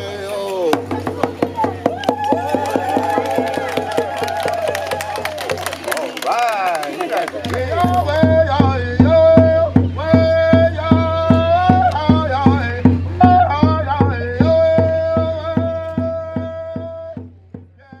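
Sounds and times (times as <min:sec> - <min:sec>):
drum beating steadily: 0:00.6 - 0:05.8, 0:07.2 - 0:18.0.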